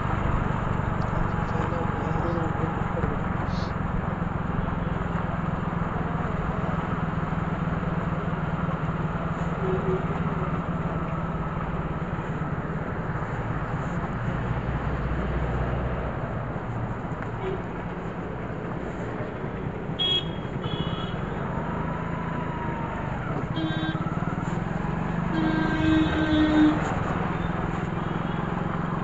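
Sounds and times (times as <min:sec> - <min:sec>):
motorbike engine running: 0:00.0 - 0:14.3, 0:17.4 - 0:29.0.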